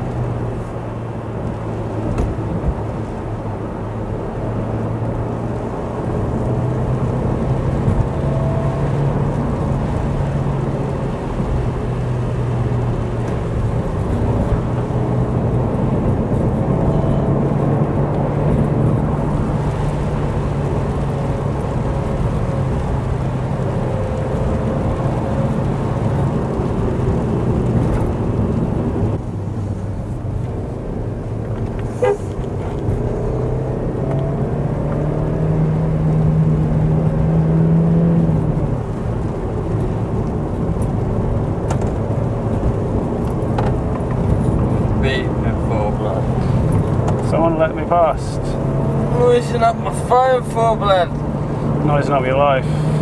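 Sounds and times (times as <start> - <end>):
car engine drone: 0.0 - 53.0
tyre and road noise: 0.0 - 53.0.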